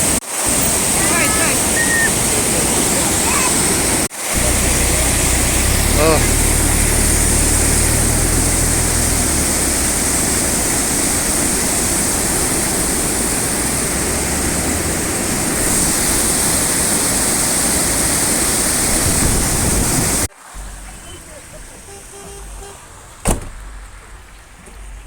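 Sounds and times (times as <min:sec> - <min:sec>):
stream pouring over rocks: 0:00.0 - 0:22.0.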